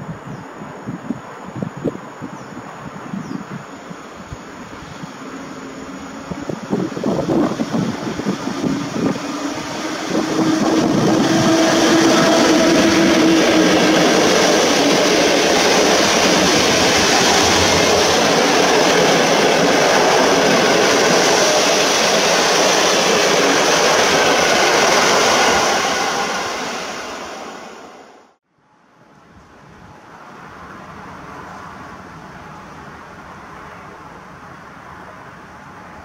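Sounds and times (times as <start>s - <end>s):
train passing at speed: 0.2s - 36.0s.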